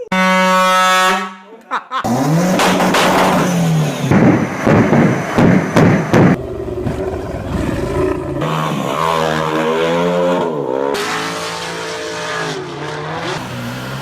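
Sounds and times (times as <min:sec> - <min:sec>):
vehicle engine revving: 0:02.0 - 0:14.0.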